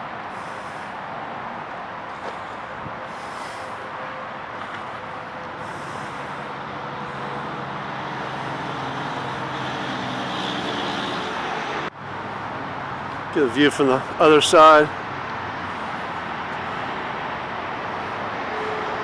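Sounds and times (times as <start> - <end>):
highway traffic: 0.0 - 19.0
truck engine: 0.0 - 19.0.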